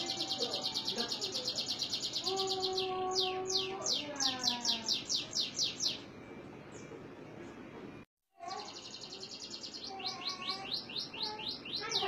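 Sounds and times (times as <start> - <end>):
canary singing: 0.0 - 7.0, 8.4 - 12.0.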